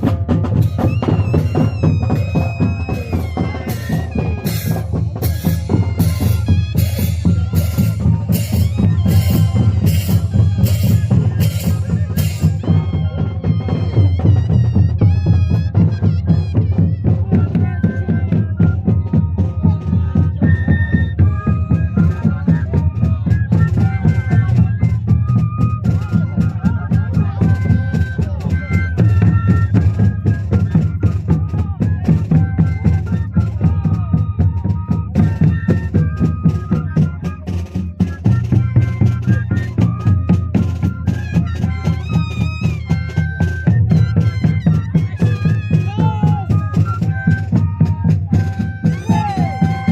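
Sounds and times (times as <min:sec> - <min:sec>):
cane flutes playing melody: 0:00.0 - 0:49.9
steady drum beat: 0:00.0 - 0:49.9.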